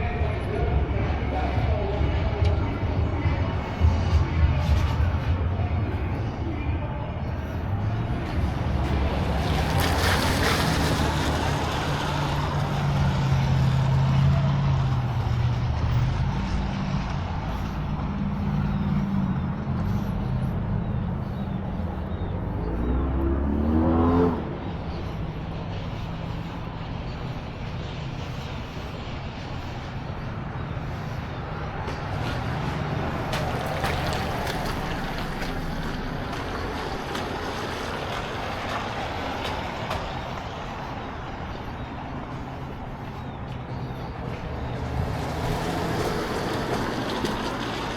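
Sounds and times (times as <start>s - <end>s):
traffic din: 0.0s - 47.9s
vehicle engines droning: 0.0s - 47.9s.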